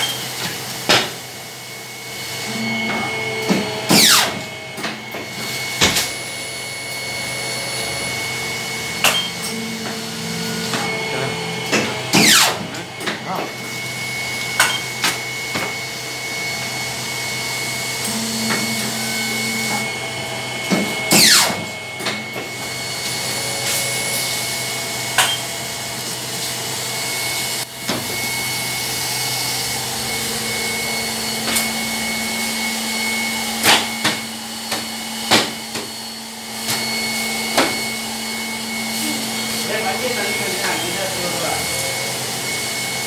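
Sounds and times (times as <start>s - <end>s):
paper cutter motor hum: 0.0s - 43.0s
falling whine: 2.1s - 43.0s.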